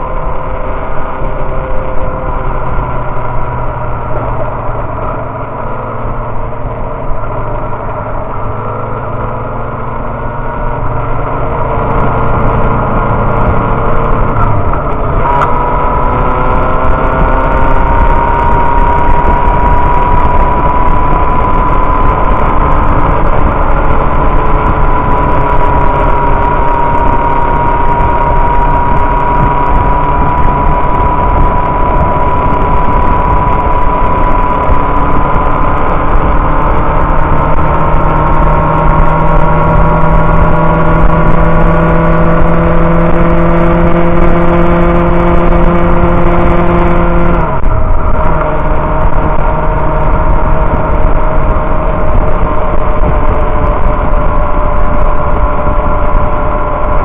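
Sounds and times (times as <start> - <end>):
heavy wind noise: 0.0 - 57.0
motorcycle engine running: 0.0 - 57.0.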